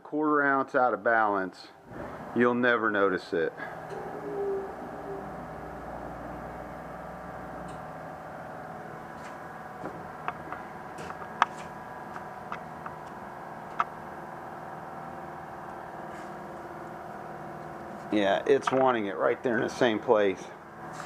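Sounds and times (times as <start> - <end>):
electrical hum: 0.4 - 21.0.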